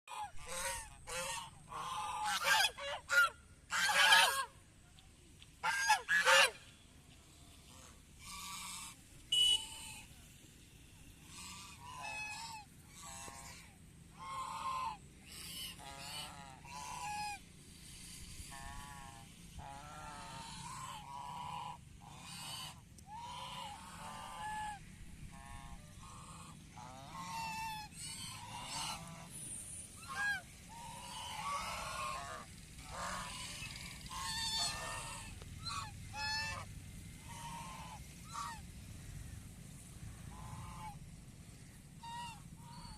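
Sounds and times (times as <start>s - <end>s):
waterfowl honking: 0.1s - 4.5s, 5.6s - 6.8s, 7.7s - 10.1s, 11.2s - 17.4s, 18.5s - 29.4s, 30.0s - 38.6s, 40.3s - 41.0s, 42.0s - 42.9s.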